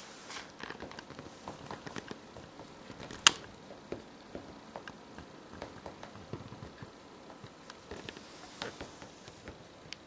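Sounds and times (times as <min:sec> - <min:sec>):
faint taps and clicks: 0:00.6 - 0:10.0.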